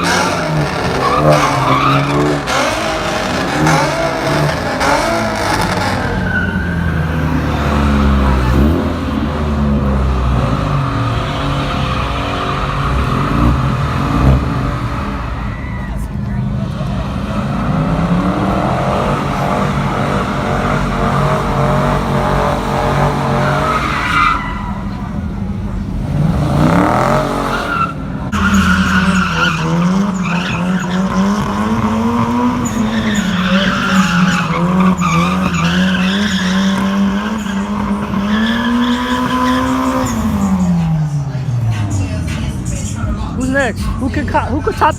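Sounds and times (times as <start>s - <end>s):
car engine revving: 0.0s - 44.9s
tyres skidding and squealing: 0.0s - 44.9s.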